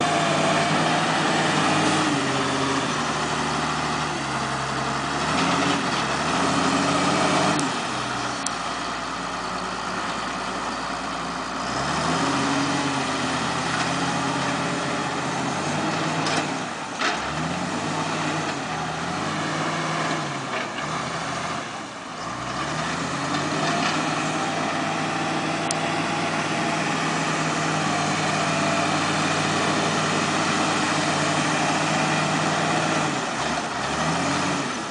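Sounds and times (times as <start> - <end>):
heavy machinery engine running: 0.0 - 34.9.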